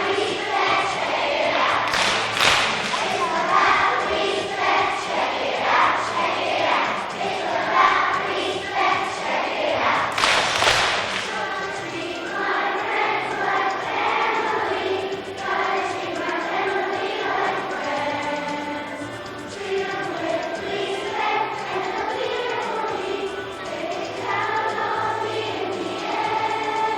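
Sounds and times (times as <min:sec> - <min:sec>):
children's choir singing: 0:00.0 - 0:26.9
instrumental accompaniment: 0:00.0 - 0:26.9.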